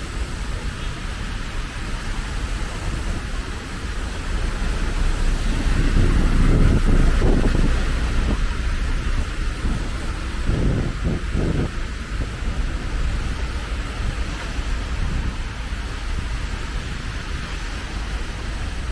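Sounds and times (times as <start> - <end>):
street noise in rain: 0.0 - 18.9
wind buffeting microphone: 0.2 - 18.9.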